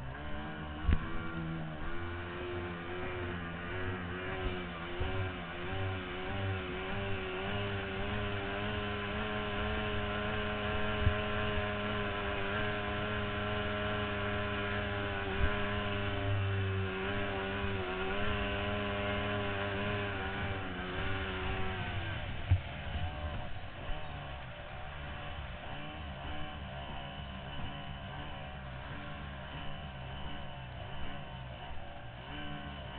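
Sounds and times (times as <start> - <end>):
outboard engine at speed: 0.0 - 32.9.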